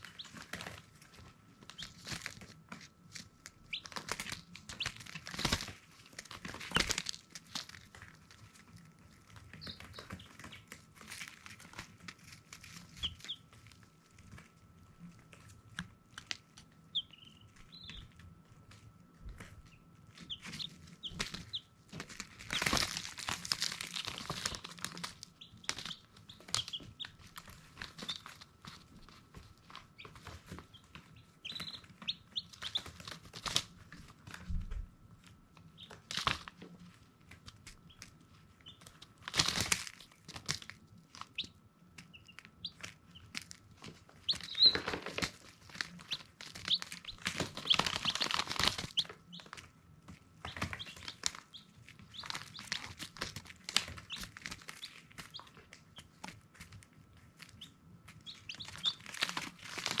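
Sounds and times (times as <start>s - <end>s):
rustling: 0.0s - 34.6s, 35.2s - 60.0s
baby chicks peeping: 0.0s - 60.0s.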